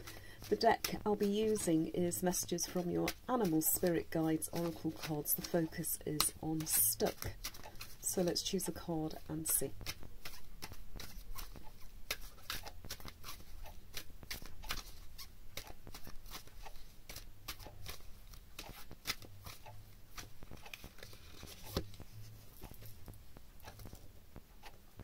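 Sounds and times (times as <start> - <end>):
cards being shuffled: 0.0 - 24.8.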